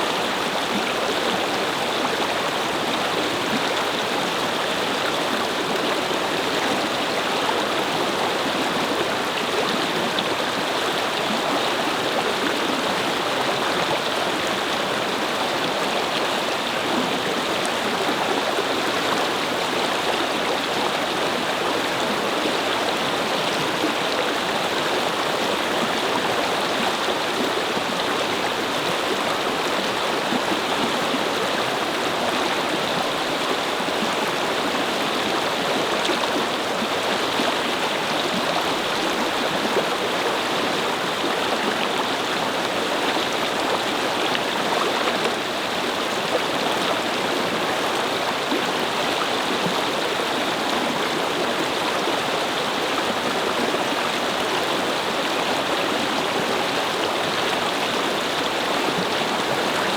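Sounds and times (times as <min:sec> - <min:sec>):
brook babbling over rocks: 0:00.0 - 0:59.9.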